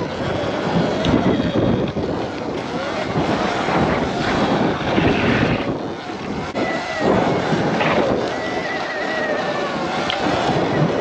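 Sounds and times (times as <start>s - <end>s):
electric dirt bike riding: 0.0s - 11.0s
wind buffeting microphone: 0.0s - 11.0s.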